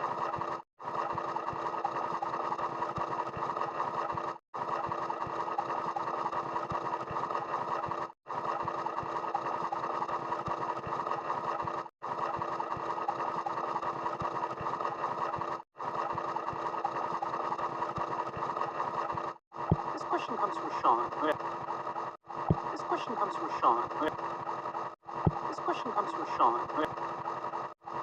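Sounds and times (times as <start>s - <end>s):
small machine running with ticking: 0.0s - 28.0s.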